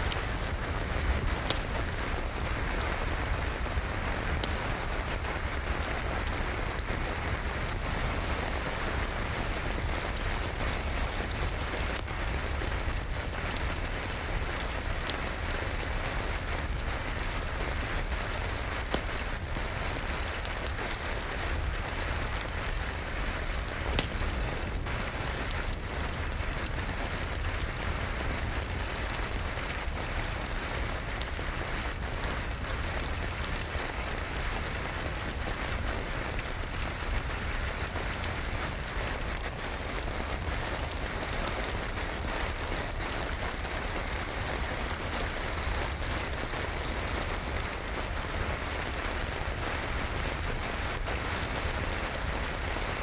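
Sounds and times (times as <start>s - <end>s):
steady rain falling: 0.0s - 53.0s
wood fire popping: 0.0s - 53.0s.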